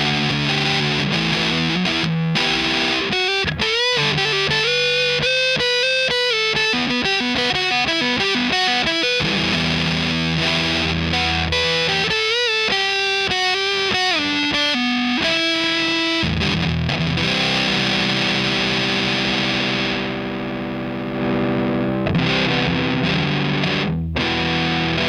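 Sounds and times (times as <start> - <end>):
fuzz electric guitar: 0.0 - 25.0.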